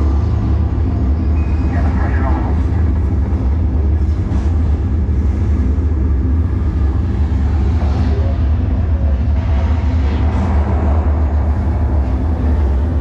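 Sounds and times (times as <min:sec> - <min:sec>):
deep rumbling drone: 0:00.0 - 0:13.0.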